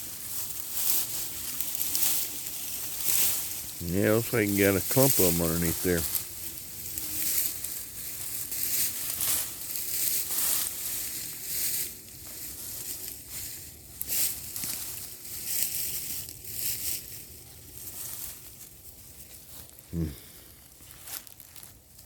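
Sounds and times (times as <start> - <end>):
digging through wood chips and soil: 0.0 - 22.0.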